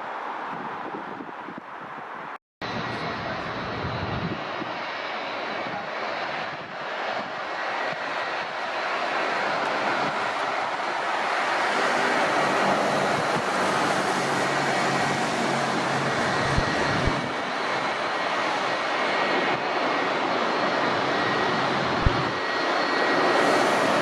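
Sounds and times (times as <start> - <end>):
jet engines running: 2.6 - 24.0.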